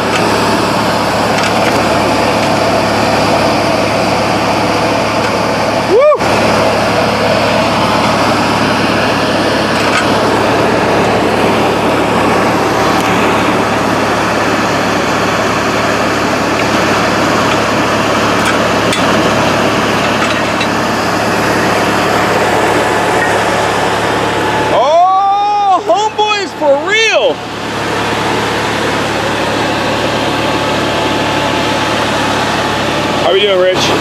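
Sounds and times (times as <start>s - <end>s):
engine humming: 0.0s - 34.0s.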